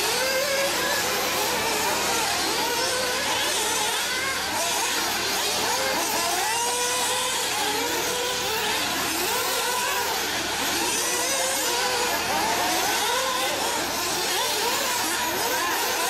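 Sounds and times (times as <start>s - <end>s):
small engines revving: 0.0s - 16.0s.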